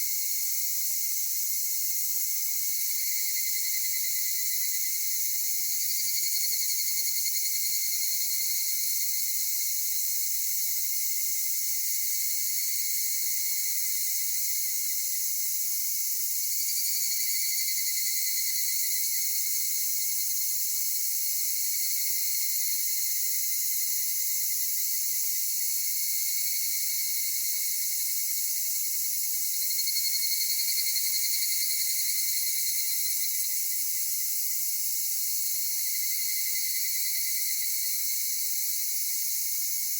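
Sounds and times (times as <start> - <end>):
cicadas and insects chorus: 0.0 - 39.9.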